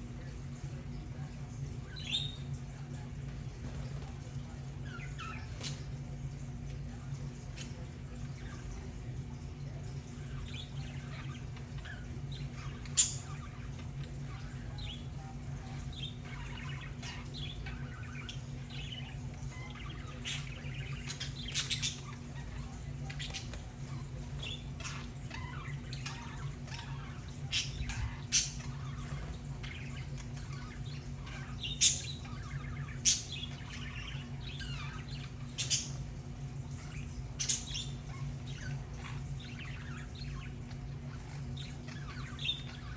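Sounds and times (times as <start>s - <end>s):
steady low hum: 0.0s - 42.9s
budgerigars chattering and chirping: 0.1s - 42.9s.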